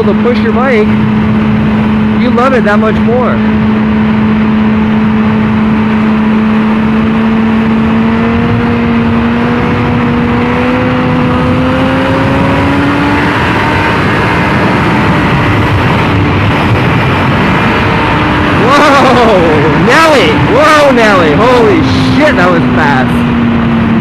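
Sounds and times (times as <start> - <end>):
wind noise rushing: 0.0 - 24.0.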